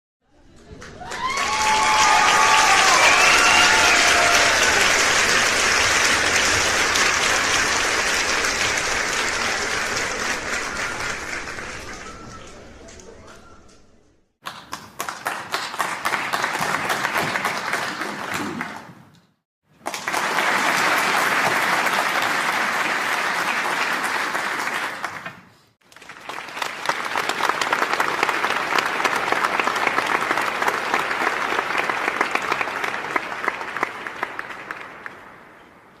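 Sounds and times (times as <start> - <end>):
audience applause: 0.4 - 13.2, 14.4 - 18.9, 19.7 - 35.7.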